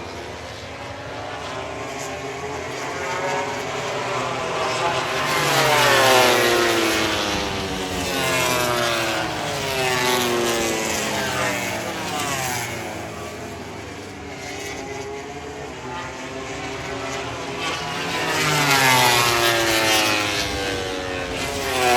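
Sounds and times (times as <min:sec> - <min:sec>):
racing motorcycles passing by: 0:00.0 - 0:21.9.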